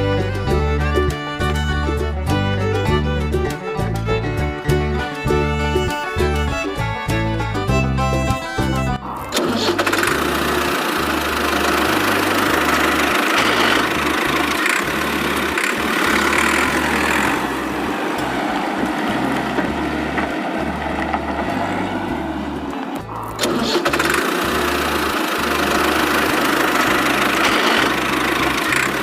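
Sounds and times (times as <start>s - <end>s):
music: 0.0s - 29.0s
tractor engine running: 0.0s - 29.0s.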